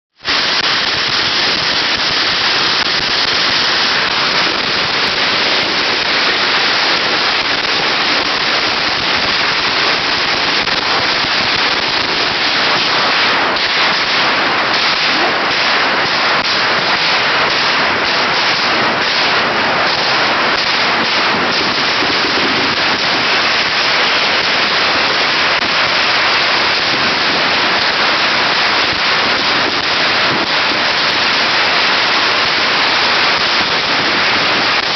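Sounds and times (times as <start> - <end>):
firecrackers crackling: 0.1 - 34.9.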